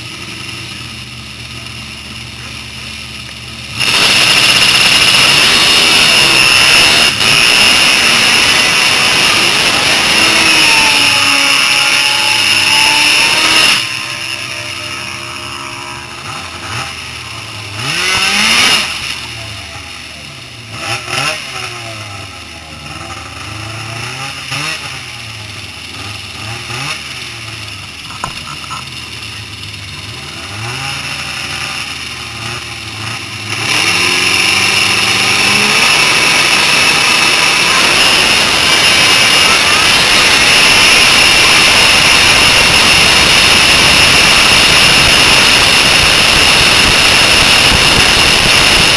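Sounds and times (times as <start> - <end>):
snowmobile engine revving: 0.0 - 48.9
rushing noise: 2.9 - 48.9.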